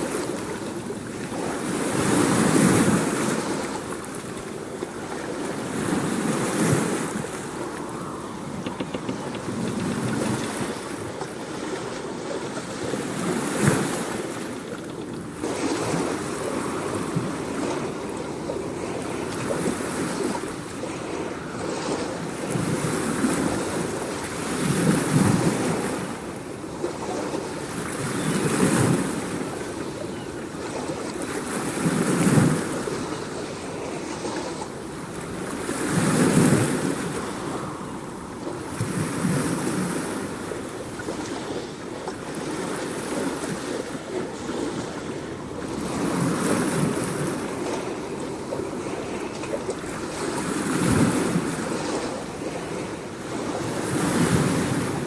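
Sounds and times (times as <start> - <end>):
ocean surf waves: 0.0 - 55.0.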